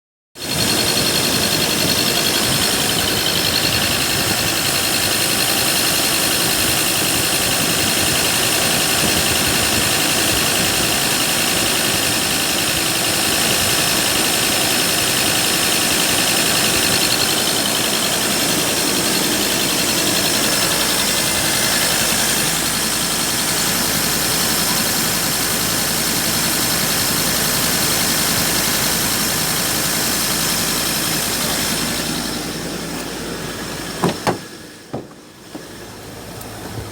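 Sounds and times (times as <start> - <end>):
diesel engine running: 0.4 - 36.9.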